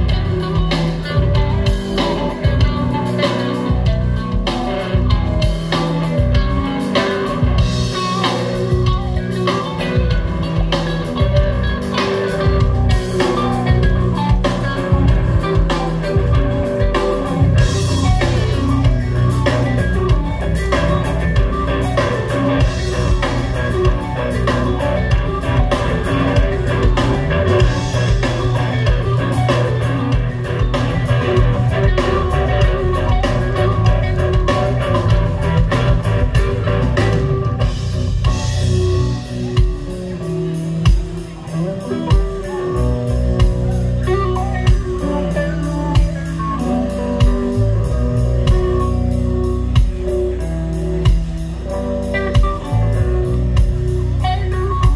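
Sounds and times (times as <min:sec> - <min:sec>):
drum kit: 0:00.0 - 0:54.9
electric guitars: 0:00.0 - 0:54.9.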